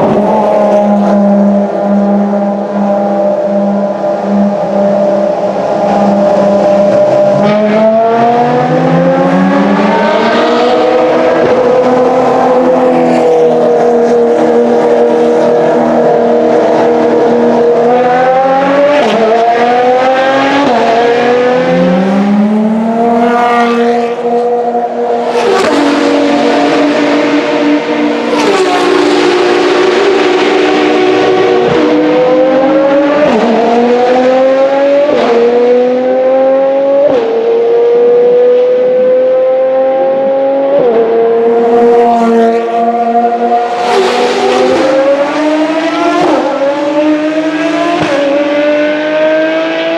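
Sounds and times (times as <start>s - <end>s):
race car engines revving: 0.0s - 49.9s
race car passing: 0.0s - 49.9s.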